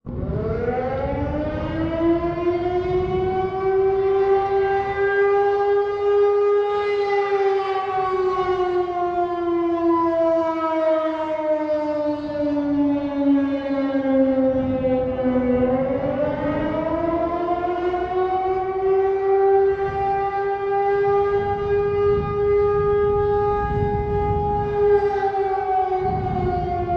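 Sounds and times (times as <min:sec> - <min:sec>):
warning siren wailing: 0:00.0 - 0:26.9.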